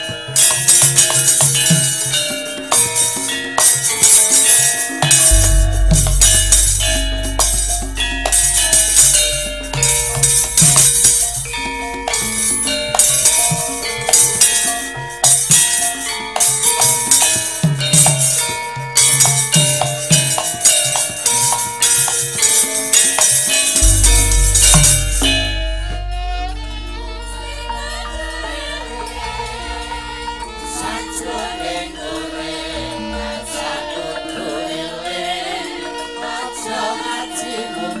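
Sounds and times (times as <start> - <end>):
drum strokes: 0.0 - 33.9
metallophone melody: 0.0 - 36.3
jingling percussion: 0.0 - 38.0.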